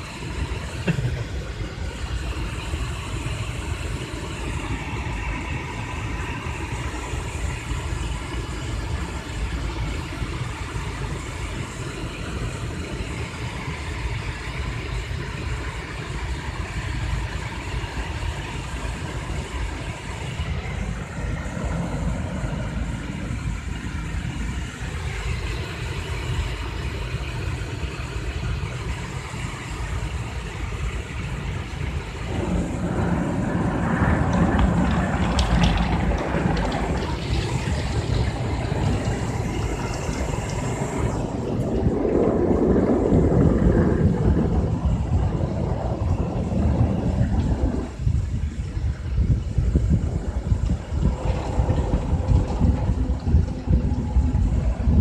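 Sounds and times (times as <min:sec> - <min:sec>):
car wash machinery rumbling: 0:00.0 - 0:55.0
water spraying on car: 0:00.0 - 0:55.0.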